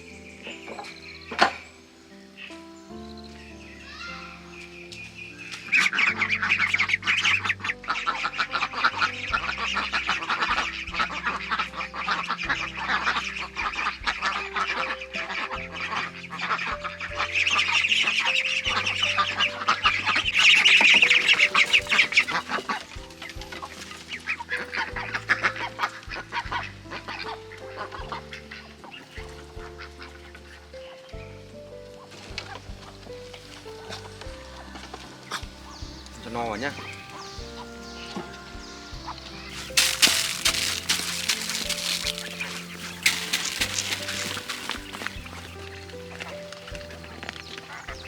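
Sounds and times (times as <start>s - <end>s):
music with held chords: 0.0s - 48.0s
ducks quacking: 5.6s - 31.0s, 34.6s - 48.0s.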